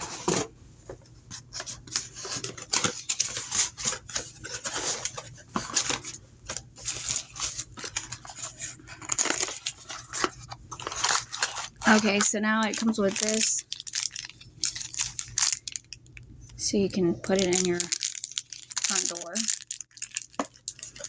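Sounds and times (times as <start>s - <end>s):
packaging rustling and knocking: 0.0s - 15.9s, 17.3s - 21.0s.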